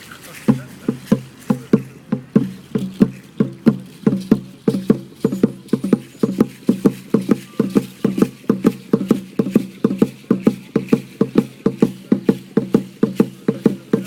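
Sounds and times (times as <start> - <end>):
deep drum beaten fast: 0.5 - 14.0.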